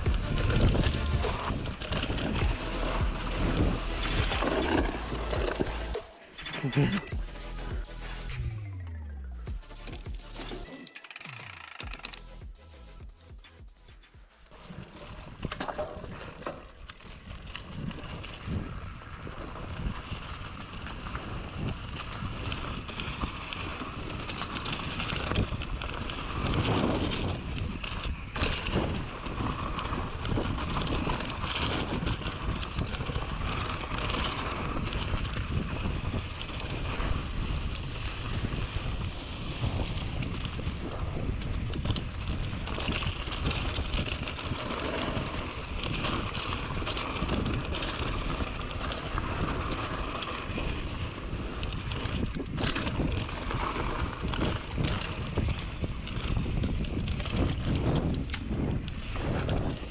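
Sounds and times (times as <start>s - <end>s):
wind rushing over microphone: 0.0s - 5.6s, 17.2s - 59.9s
bike rattling and knocking: 0.0s - 6.1s, 14.9s - 59.9s
bike tyre noise on dirt: 0.0s - 59.9s.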